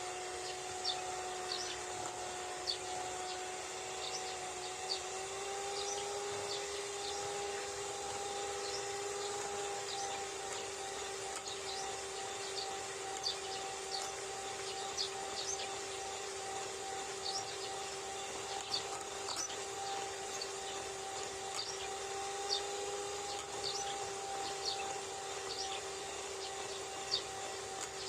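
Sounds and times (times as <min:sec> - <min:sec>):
electric motor hum: 0:00.0 - 0:28.0
small birds chirping: 0:00.0 - 0:28.0.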